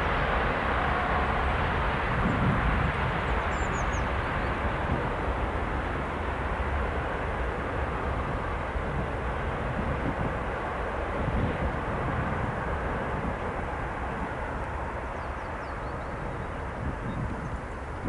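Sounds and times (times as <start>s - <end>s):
freight train rumbling on tracks: 0.0s - 18.0s.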